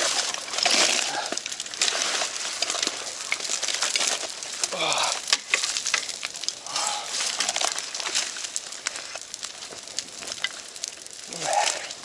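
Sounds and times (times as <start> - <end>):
burning wood snapping and popping: 0.0 - 12.0
steady fire hiss: 0.0 - 12.0.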